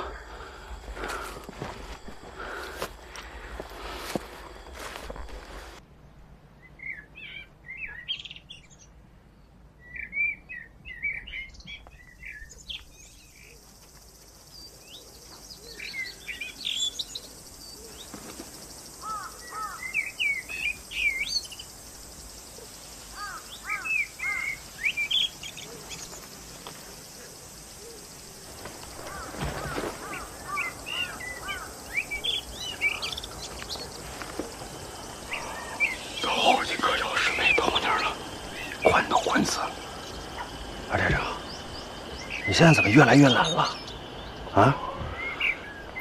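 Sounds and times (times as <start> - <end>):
birds chirping: 0.0 - 46.0
faint forest ambience hiss: 0.0 - 46.0.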